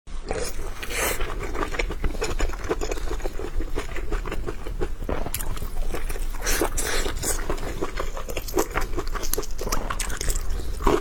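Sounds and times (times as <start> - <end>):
wet chewing with mouth clicks: 0.2 - 11.0.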